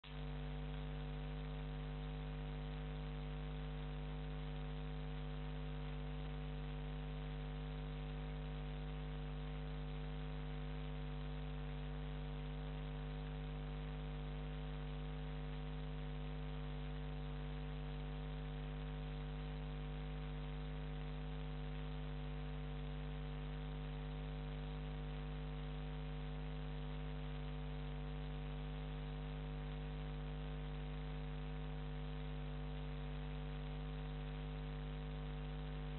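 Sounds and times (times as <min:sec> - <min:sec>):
electrical mains hum: 0:00.0 - 0:35.9.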